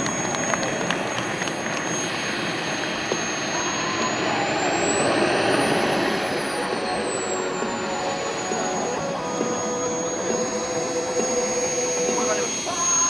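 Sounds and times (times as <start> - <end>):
model jet turbine whine: 0.0 - 13.0.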